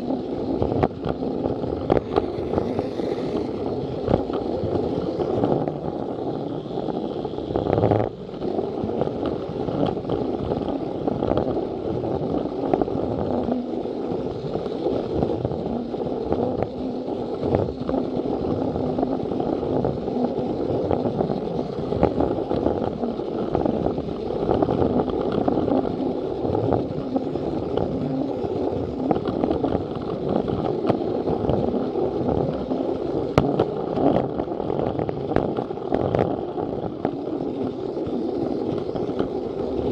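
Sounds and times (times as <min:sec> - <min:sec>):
toy train running on track: 0:00.0 - 0:39.9
wheels clicking on track joints: 0:00.0 - 0:39.9.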